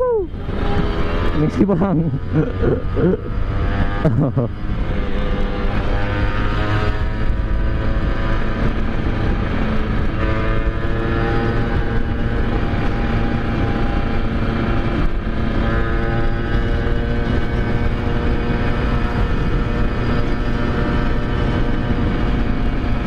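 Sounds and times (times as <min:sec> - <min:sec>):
low wind rumble: 0:00.0 - 0:23.0
two-stroke motorcycle engine: 0:00.3 - 0:23.0.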